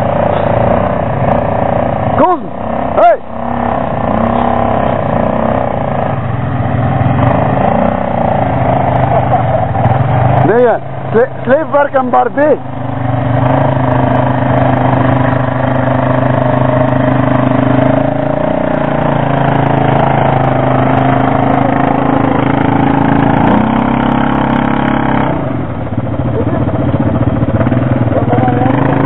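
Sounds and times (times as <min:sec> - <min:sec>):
quad engines running: 0:00.0 - 0:29.0.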